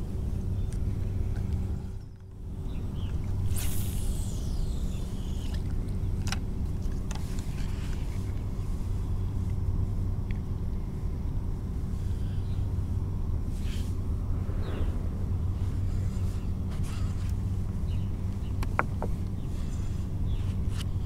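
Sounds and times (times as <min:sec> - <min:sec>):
low rumble with faint hum: 0:00.0 - 0:21.0.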